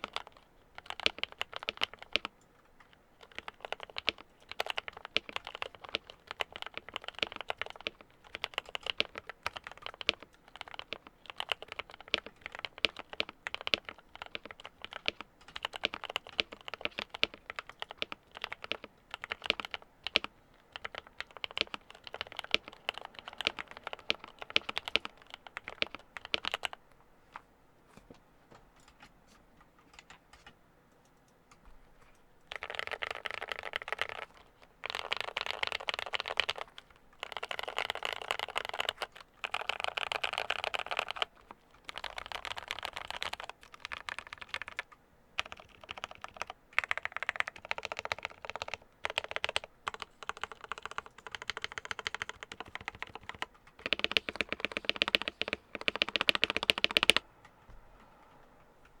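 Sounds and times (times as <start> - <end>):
mechanical keyboard typing: 0.0 - 26.8, 29.9 - 31.6, 32.4 - 57.2.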